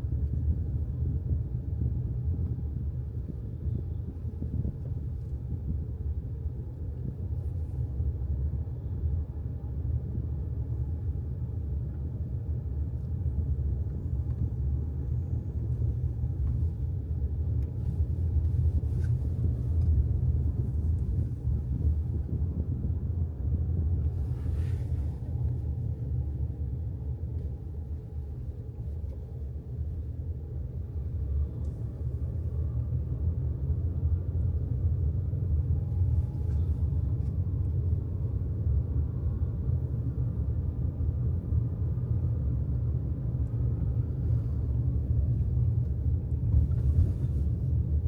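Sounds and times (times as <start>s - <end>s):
moving car rumble: 0.0s - 48.0s.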